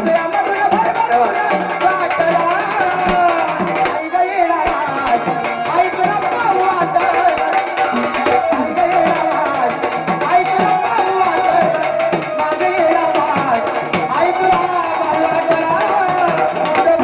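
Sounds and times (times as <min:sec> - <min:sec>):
drums beating driving rhythm: 0:00.0 - 0:17.0.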